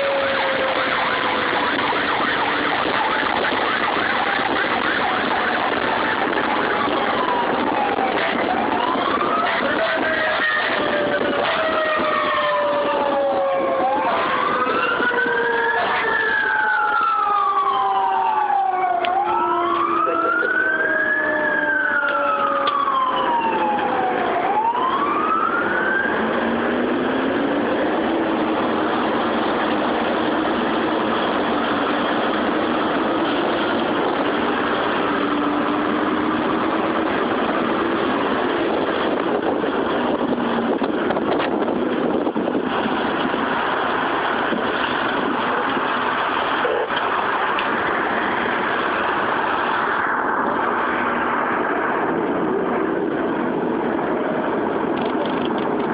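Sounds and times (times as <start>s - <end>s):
low sliding siren tones: 0.0s - 54.9s
engine and road noise: 0.0s - 55.9s
fire engine siren wailing: 0.0s - 55.9s.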